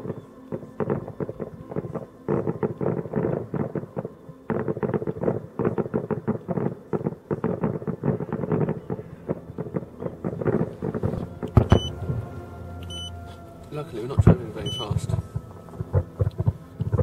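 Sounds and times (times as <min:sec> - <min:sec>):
fireworks bangs and crackles: 0:00.0 - 0:12.2, 0:13.8 - 0:17.0.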